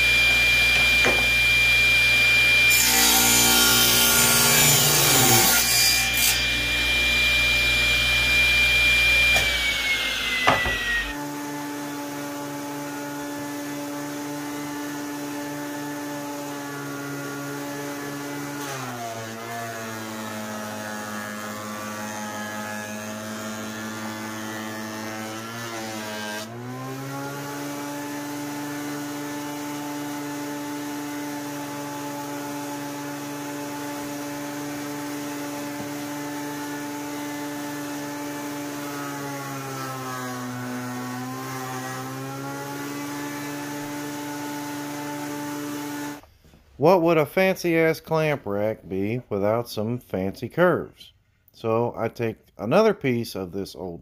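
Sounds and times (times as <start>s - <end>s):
thickness planer humming: 0.0s - 46.2s
table saw cutting wood: 0.0s - 46.3s.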